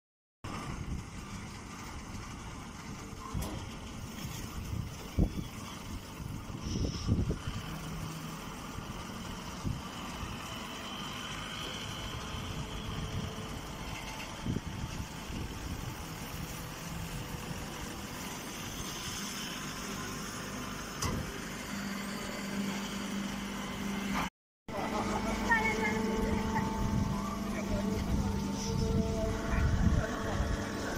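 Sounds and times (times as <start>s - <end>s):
hay baler machinery hum: 0.5s - 30.9s.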